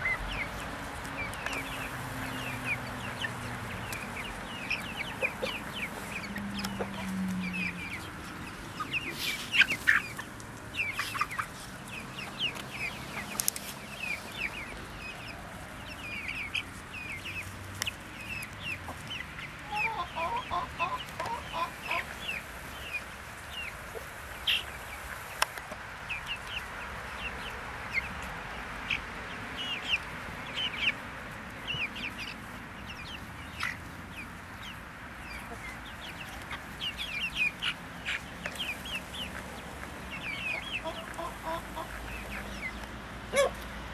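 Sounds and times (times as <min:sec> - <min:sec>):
chicken clucking: 0:00.0 - 0:43.8
chicks peeping and chirping: 0:00.0 - 0:43.9.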